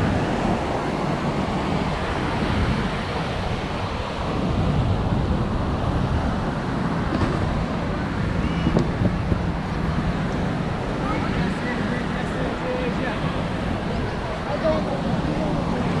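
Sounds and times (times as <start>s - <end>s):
passing road traffic: 0.0s - 16.0s
surf: 0.0s - 16.0s
wind buffeting microphone: 0.0s - 16.0s.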